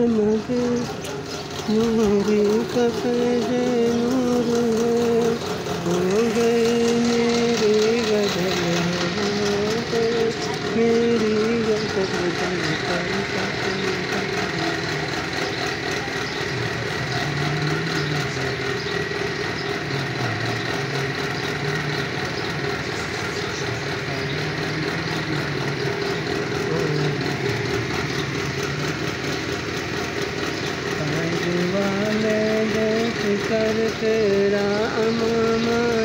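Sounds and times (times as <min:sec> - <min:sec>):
high whine: 0:00.0 - 0:30.0
motor drone: 0:00.0 - 0:36.0.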